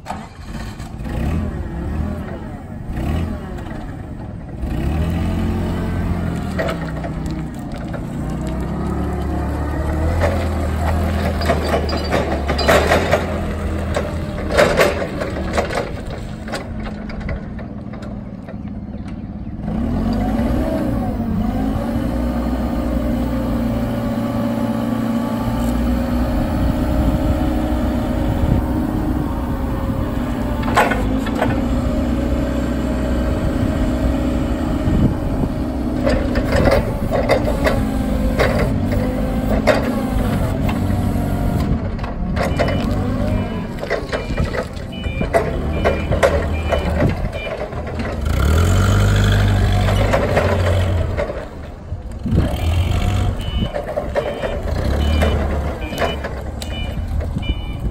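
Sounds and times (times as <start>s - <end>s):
clunks and rattles: 0.0s - 57.9s
forklift engine running: 0.0s - 57.9s.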